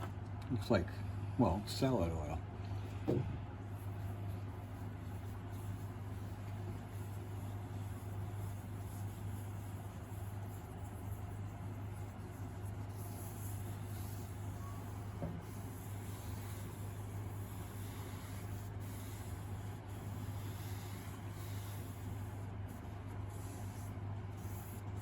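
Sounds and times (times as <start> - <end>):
steady low hum: 0.0 - 25.0
cloth pad rubbing wood: 3.8 - 25.0.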